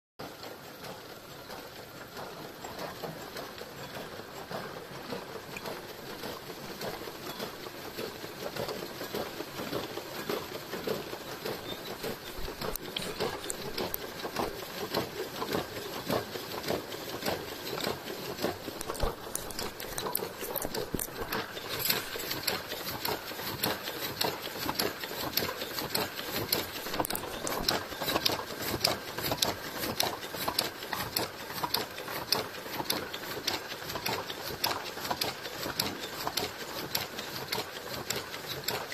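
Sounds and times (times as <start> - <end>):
machine rapid clattering clicks: 0.2 - 38.9.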